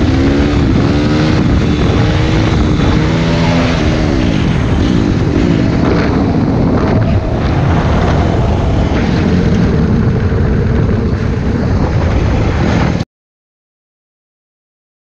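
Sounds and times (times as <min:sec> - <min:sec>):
motorcycle engine running: 0:00.0 - 0:12.9
wind on microphone: 0:00.0 - 0:13.0.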